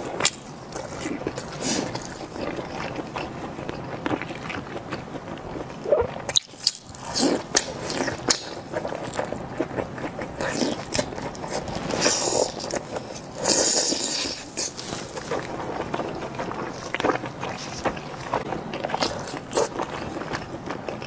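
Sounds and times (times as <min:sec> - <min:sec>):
person chewing soft sausage: 0:00.0 - 0:21.0.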